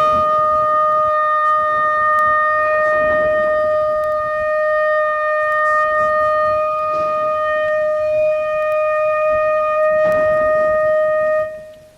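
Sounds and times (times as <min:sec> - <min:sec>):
shofar long steady blast: 0:00.0 - 0:11.9.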